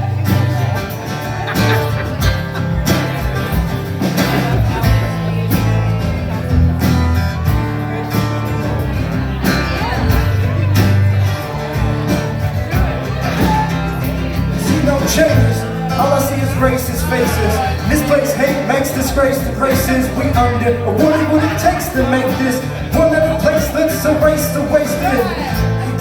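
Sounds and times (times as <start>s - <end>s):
bass line and beat: 0.0s - 26.0s
plucked guitar: 0.0s - 26.0s.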